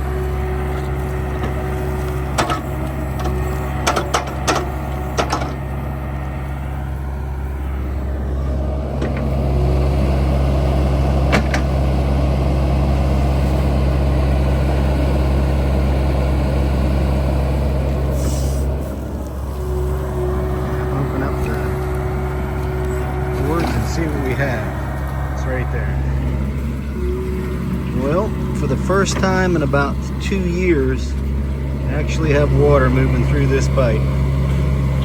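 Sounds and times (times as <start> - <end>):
heavy machinery engine running: 0.0 - 35.0.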